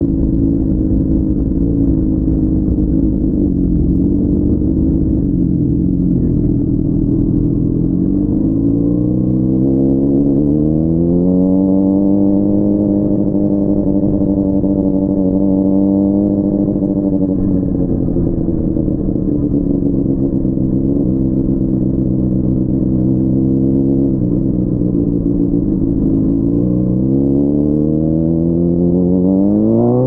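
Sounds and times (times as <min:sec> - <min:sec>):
muffled motorcycle engine revving: 0:00.0 - 0:30.0.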